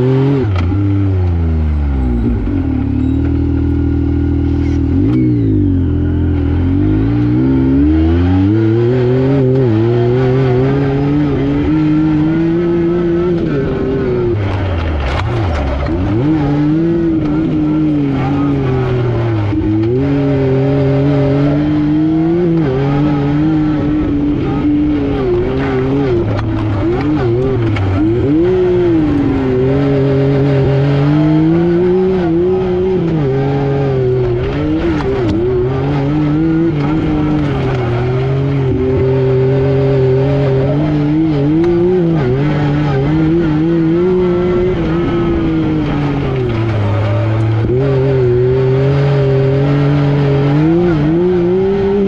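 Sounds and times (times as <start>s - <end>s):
engine accelerating and shifting: 0.0s - 52.0s.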